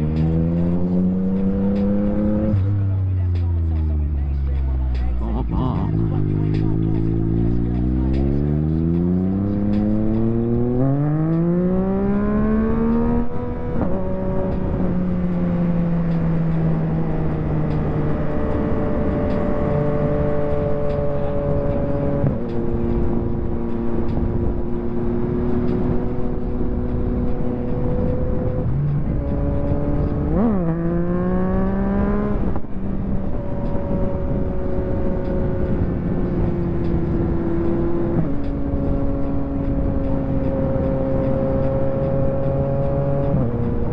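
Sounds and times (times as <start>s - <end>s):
motorcycle engine revving: 0.0s - 3.0s, 5.4s - 43.9s.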